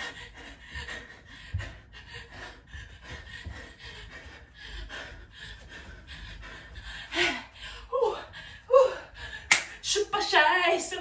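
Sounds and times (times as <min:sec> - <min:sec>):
person panting: 0:00.0 - 0:09.9.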